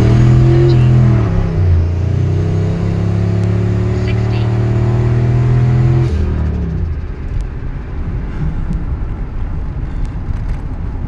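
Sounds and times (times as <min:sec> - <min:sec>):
road and tyre rumble: 0:00.0 - 0:11.0
truck engine at full throttle: 0:00.0 - 0:11.0.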